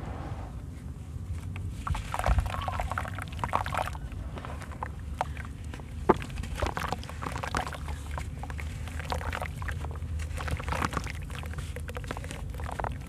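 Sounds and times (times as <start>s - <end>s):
gritty crunching and crackling: 1.3s - 13.0s
water splashing: 1.8s - 13.0s.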